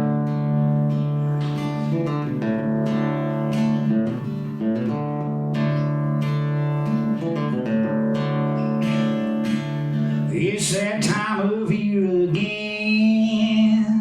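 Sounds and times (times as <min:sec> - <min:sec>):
acoustic guitar chords ringing: 0:00.0 - 0:14.0.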